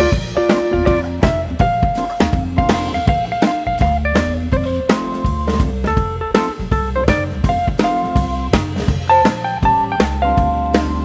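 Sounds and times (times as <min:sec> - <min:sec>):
band music with guitar and drums: 0:00.0 - 0:11.0.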